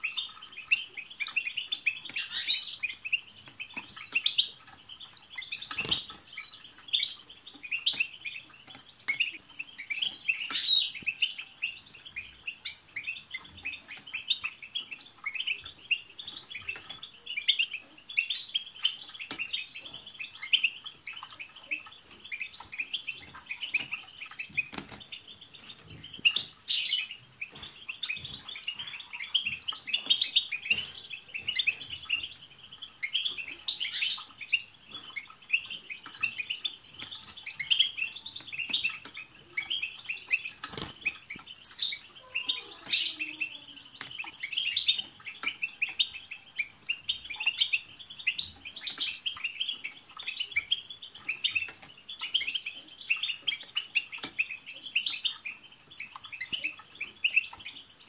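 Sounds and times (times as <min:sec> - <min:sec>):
finches twittering and singing: 0:00.0 - 0:58.0.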